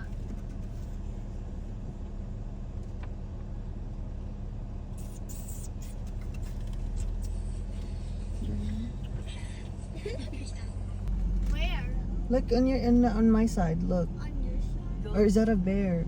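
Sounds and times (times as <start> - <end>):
car engine hum inside cabin: 0.0 - 16.0.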